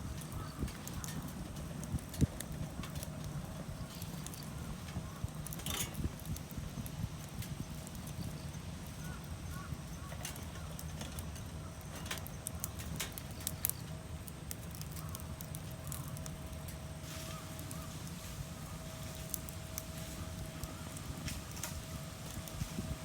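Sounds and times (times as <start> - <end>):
sharp clicks and crackles: 0.0 - 23.0.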